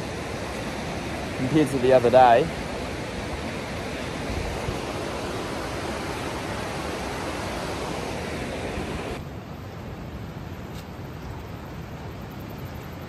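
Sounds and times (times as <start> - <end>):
river roaring: 0.0 - 13.0.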